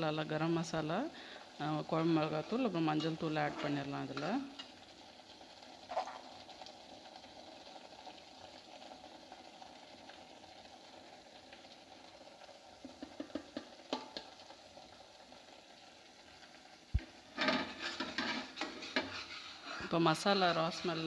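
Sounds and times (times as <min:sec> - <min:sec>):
paste sizzling in a pan: 0:00.0 - 0:21.0.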